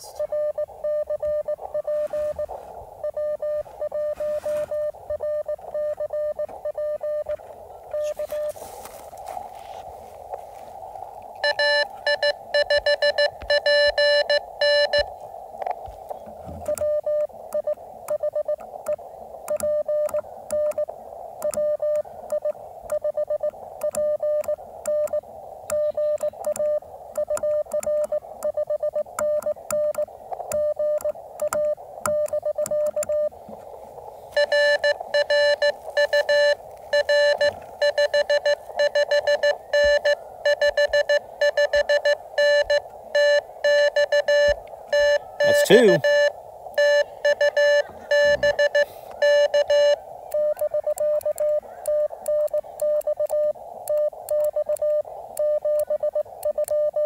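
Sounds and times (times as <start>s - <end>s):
morse code tone: 0.0s - 8.8s, 11.4s - 15.1s, 19.5s - 33.3s, 34.3s - 57.0s
radio band hiss: 0.0s - 57.0s.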